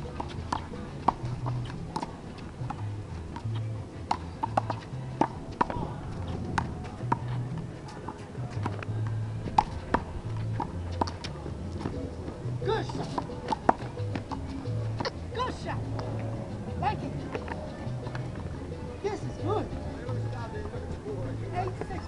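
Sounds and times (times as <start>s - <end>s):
music with stepping bassline: 0.0s - 22.0s.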